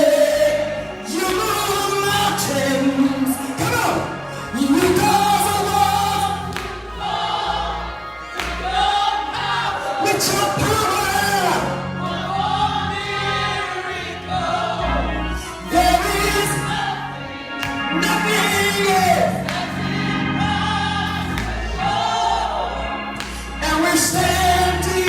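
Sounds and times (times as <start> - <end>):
instrumental accompaniment: 0.0 - 25.0
voices singing gospel: 0.0 - 25.0.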